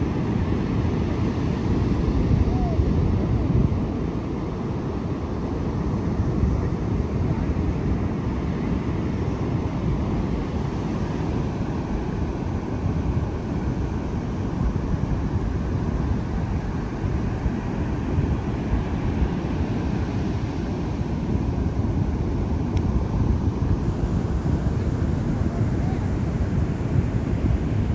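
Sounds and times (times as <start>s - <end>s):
wind on microphone: 0.0s - 27.9s.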